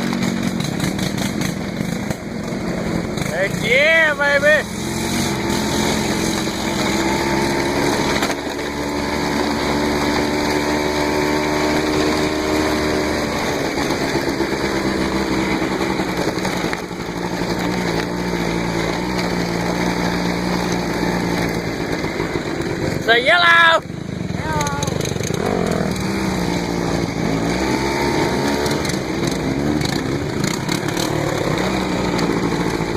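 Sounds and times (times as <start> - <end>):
off-road vehicle engine running: 0.0 - 32.9.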